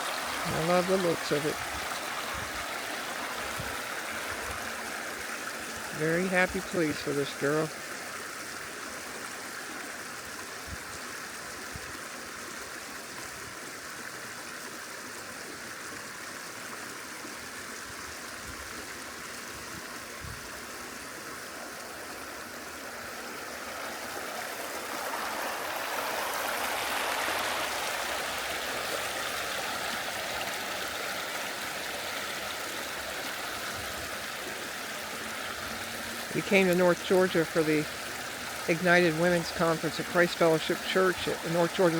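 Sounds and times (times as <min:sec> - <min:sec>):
mountain stream rushing water: 0:00.0 - 0:41.9.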